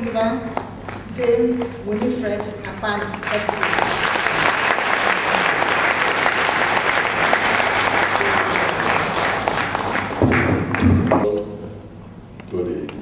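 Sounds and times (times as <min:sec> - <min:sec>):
audience applauding: 0:00.5 - 0:11.2.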